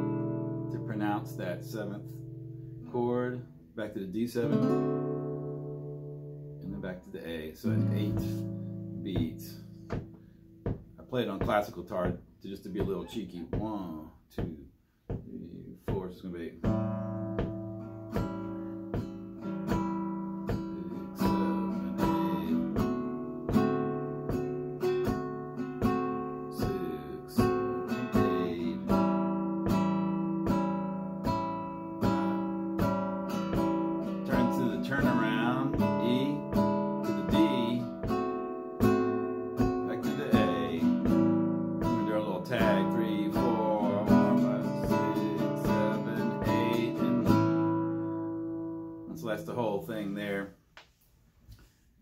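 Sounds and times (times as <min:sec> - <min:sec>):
classical guitar strumming blues: 0:00.0 - 0:50.4.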